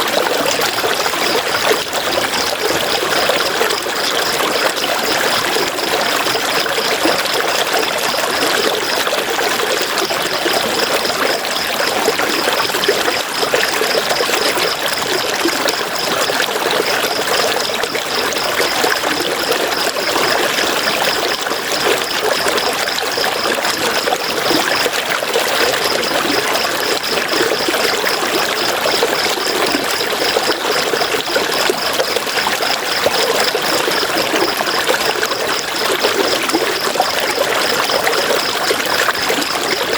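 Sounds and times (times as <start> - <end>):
river water running and splashing: 0.0 - 39.9.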